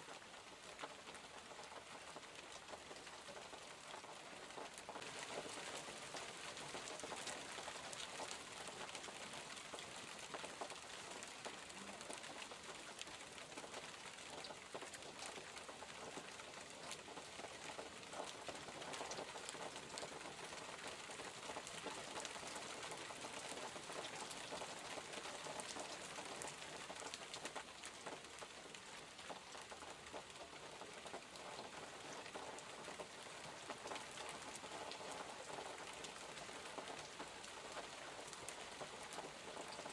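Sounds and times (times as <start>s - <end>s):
soft rainfall: 0.0s - 39.9s.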